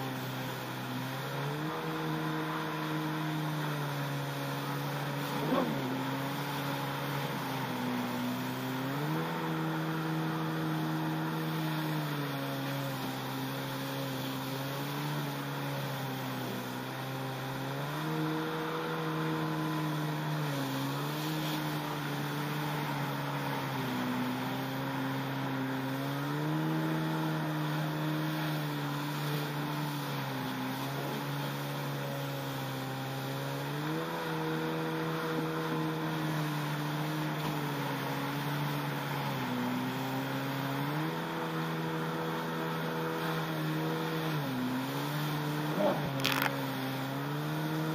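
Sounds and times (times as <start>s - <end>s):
jet ski engine running: 0.0s - 47.9s.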